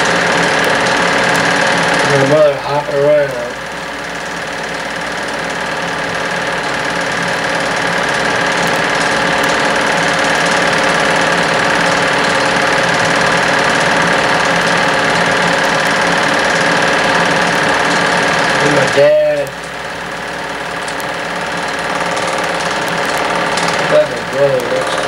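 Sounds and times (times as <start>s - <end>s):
film projector clattering: 0.0s - 25.0s.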